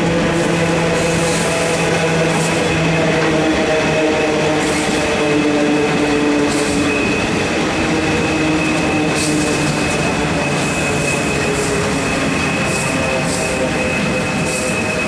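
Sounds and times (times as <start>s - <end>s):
train wheels rattling and rumbling: 0.0s - 15.0s.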